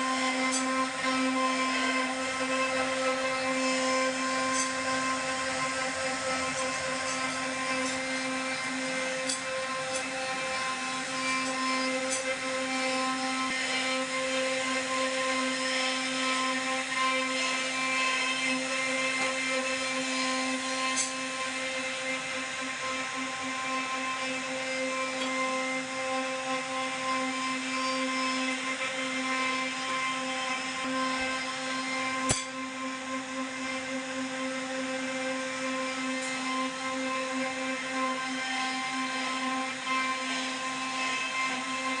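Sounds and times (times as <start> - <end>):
router spindle carving wood: 0.0 - 42.0.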